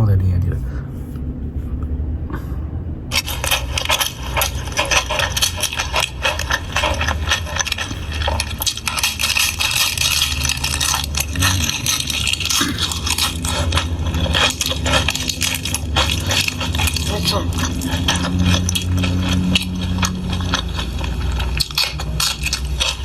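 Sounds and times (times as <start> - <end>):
low hum: 0.0 - 23.0
crunchy chewing: 3.1 - 23.0.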